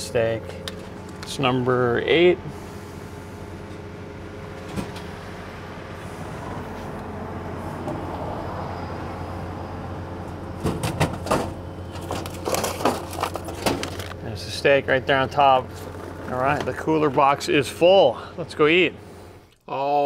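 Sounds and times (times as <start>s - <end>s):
vending machine hum: 0.0s - 20.0s.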